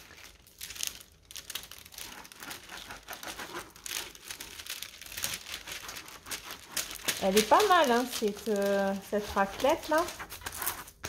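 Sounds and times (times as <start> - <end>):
plastic crinkling and rustling: 0.0 - 11.0.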